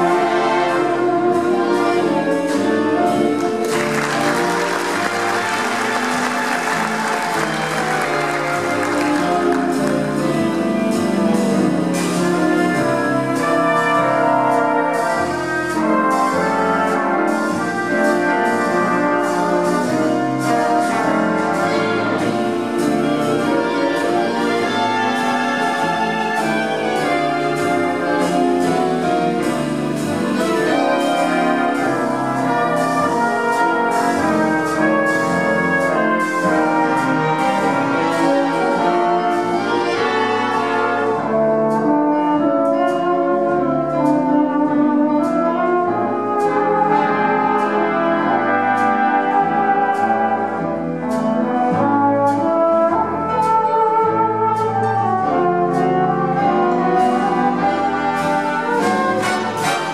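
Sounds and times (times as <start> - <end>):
big band playing swing: 0.0 - 59.9
drums keeping a steady beat: 0.0 - 59.9.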